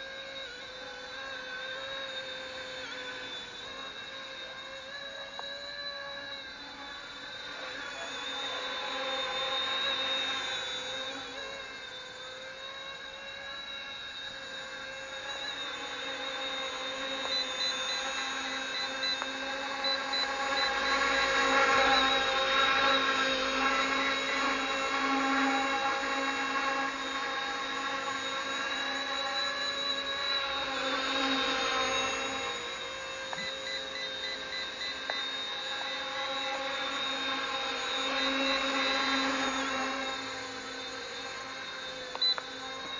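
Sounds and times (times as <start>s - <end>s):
model helicopter rotor whine: 0.0s - 42.9s.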